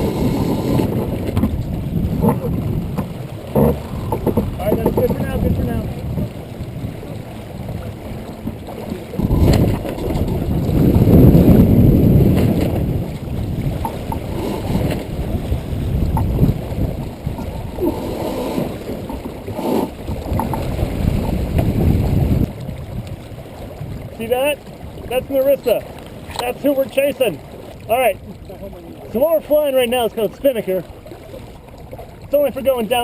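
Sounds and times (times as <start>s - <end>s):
wind buffeting microphone: 0.0s - 29.5s
water rushing along hull: 0.0s - 33.0s.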